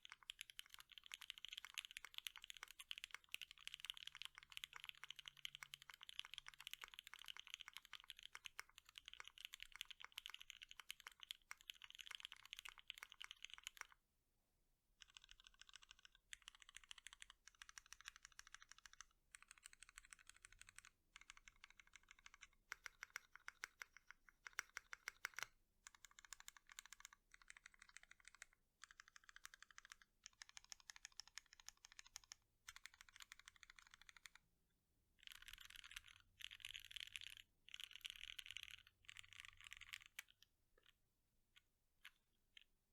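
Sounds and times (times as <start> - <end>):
mechanical keyboard typing: 0.0 - 14.0, 15.0 - 34.4, 35.2 - 41.0.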